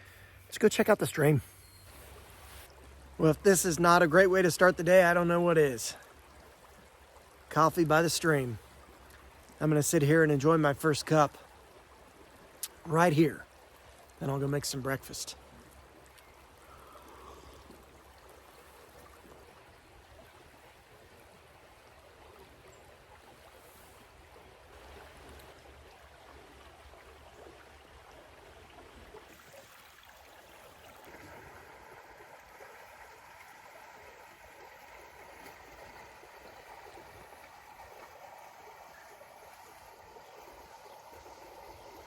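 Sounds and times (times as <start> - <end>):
creek babbling: 0.0 - 42.0.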